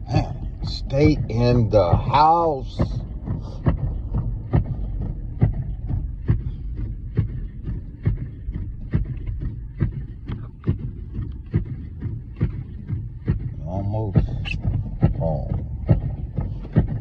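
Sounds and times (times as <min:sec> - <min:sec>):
regular thumping: 0:00.0 - 0:17.0
vehicle road rumble: 0:00.0 - 0:17.0.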